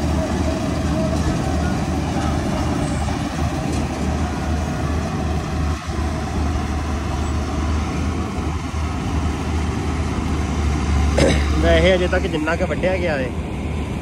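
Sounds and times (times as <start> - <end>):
diesel engine running under load: 0.0 - 14.0.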